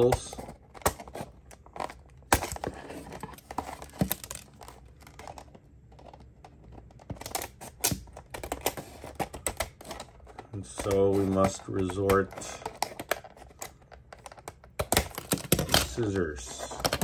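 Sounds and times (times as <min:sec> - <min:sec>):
plastic packaging clicking and crackling: 0:00.0 - 0:17.0.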